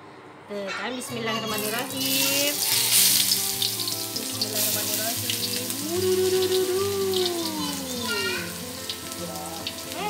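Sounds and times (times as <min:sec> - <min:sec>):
garlic sizzling in oil: 0:01.5 - 0:10.0.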